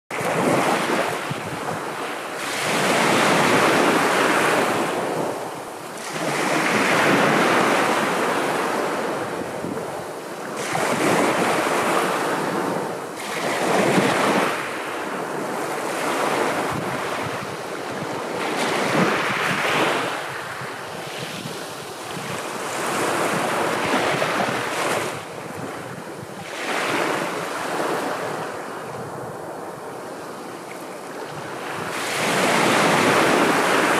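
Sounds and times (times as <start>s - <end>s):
sea waves breaking on shore: 0.1s - 33.9s.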